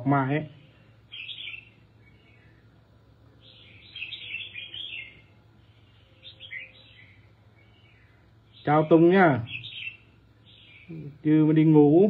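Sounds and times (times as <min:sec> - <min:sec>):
bulbul singing: 0:00.0 - 0:12.0.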